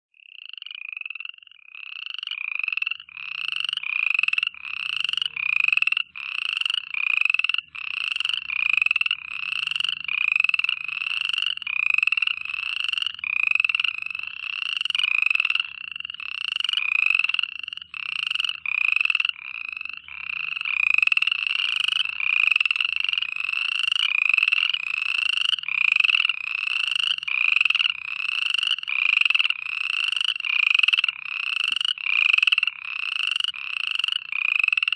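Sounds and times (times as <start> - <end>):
frogs croaking: 0.1 - 34.9.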